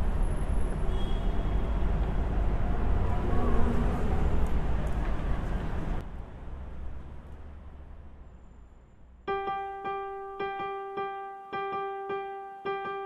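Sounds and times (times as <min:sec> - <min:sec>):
low rumble of passing vehicles: 0:00.0 - 0:13.0.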